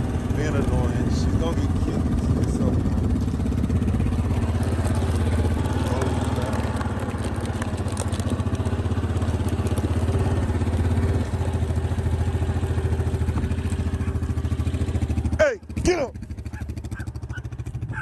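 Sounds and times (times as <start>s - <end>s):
vehicle engine chugging at low revs: 0.0s - 18.0s.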